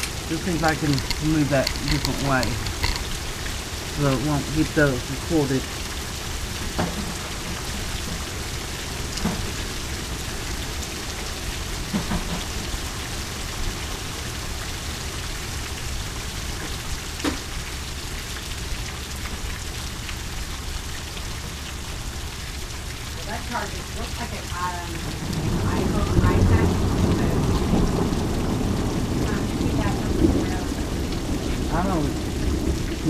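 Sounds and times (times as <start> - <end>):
steady rain hissing: 0.0 - 33.0.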